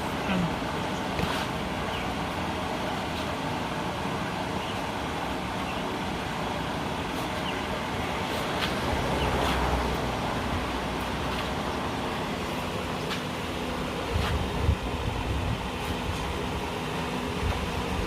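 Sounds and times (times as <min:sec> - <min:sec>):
traffic rumble and hiss: 0:00.0 - 0:18.0.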